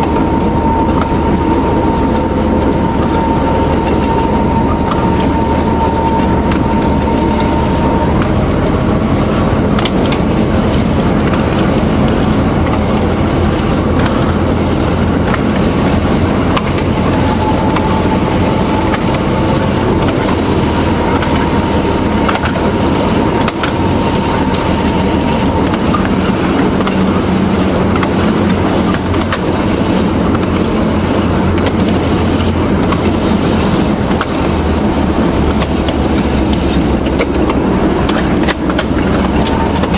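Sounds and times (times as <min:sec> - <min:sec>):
diesel locomotive engine running: 0:00.0 - 0:39.9
high steady whine: 0:00.0 - 0:39.9
wheels clicking over rail joints: 0:00.0 - 0:39.9.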